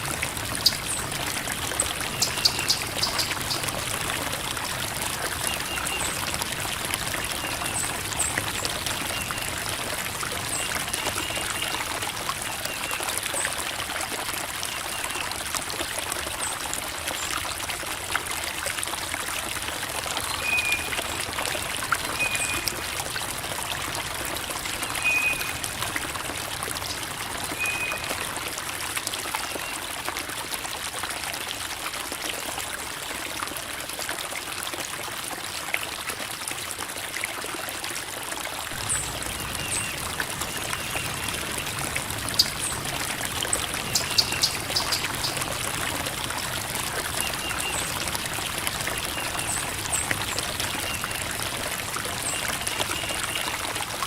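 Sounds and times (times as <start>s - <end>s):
creek babbling over rocks: 0.0s - 54.0s.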